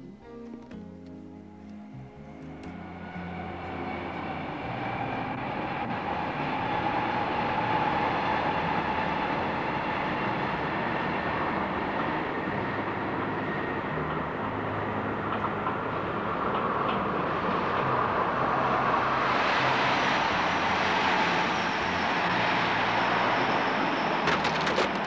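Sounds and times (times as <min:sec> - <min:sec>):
train wheels rumbling on rails: 0:02.4 - 0:25.0.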